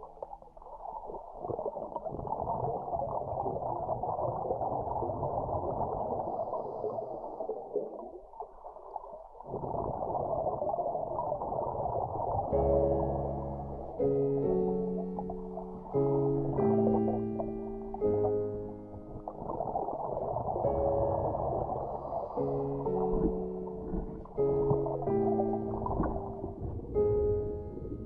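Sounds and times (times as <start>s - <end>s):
underwater bubbles gurgling: 0.0s - 28.0s.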